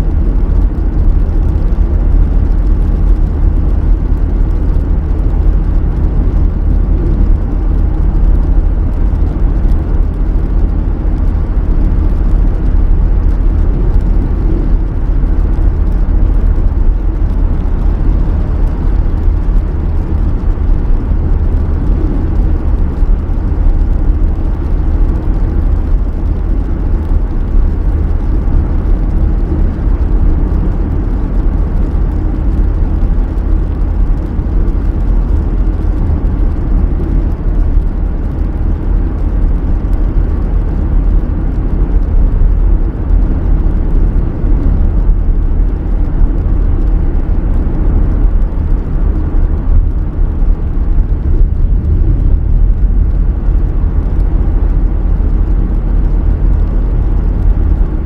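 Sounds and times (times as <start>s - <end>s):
tyre noise on wet road: 0.0s - 58.0s.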